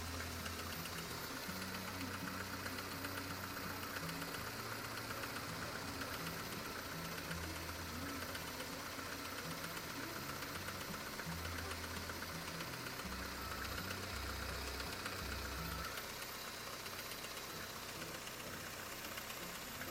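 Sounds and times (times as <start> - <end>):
car engine idling: 0.0 - 19.9
engine knock: 0.0 - 19.9.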